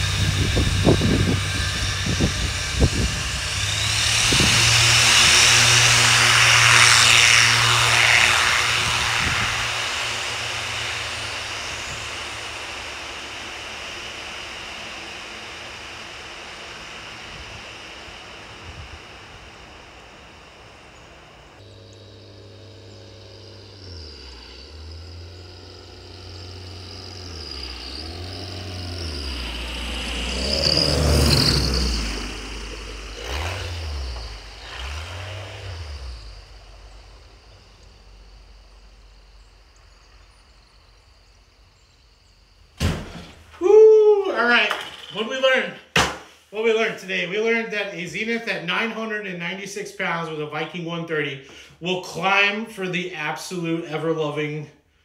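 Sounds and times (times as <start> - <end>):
light aircraft propeller drone: 0.0 - 55.0.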